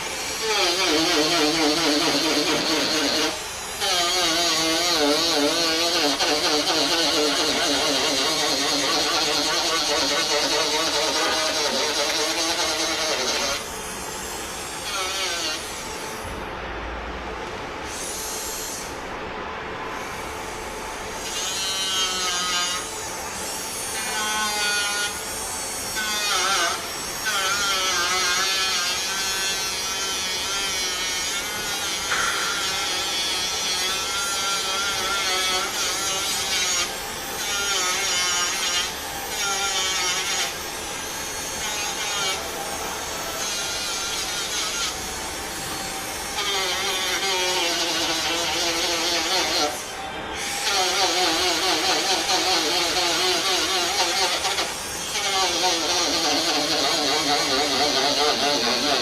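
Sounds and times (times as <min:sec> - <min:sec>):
power tool grinding metal: 0:00.0 - 0:16.1, 0:21.2 - 0:59.0.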